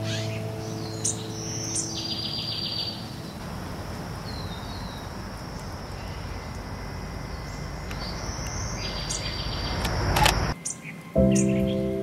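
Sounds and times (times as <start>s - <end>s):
high insect drone: 0.0s - 11.6s
birds chirping and trilling: 0.0s - 12.0s.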